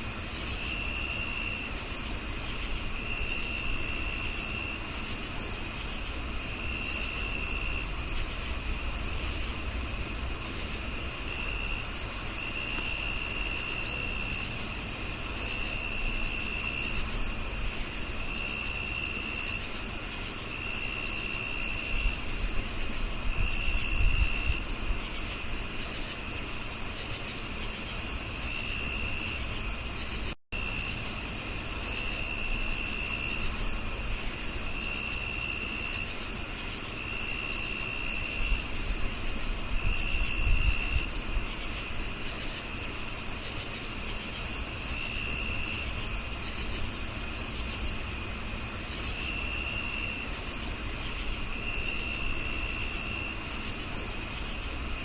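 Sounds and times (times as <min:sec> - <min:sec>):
high cricket trill: 0:00.0 - 0:55.0
regular cricket chirp: 0:00.0 - 0:55.0
short lower cricket trills: 0:00.0 - 0:55.0.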